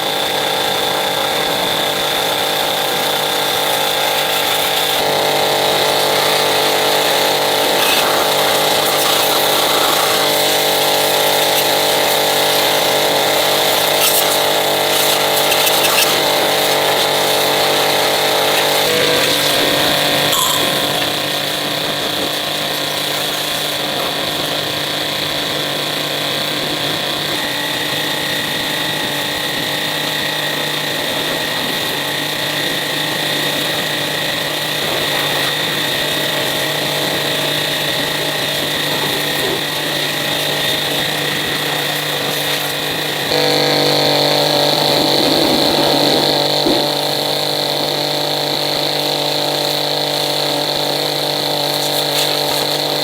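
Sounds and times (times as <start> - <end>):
power tool motor running: 0.0 - 53.0.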